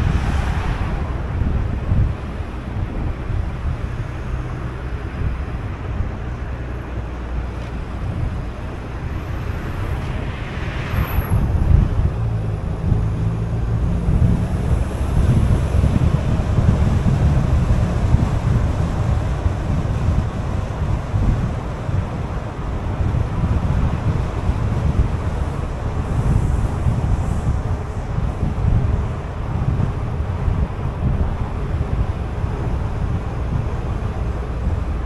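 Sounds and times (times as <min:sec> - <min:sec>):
car engine and tyre rumble: 0:00.0 - 0:35.0
wind buffeting microphone: 0:00.0 - 0:35.0.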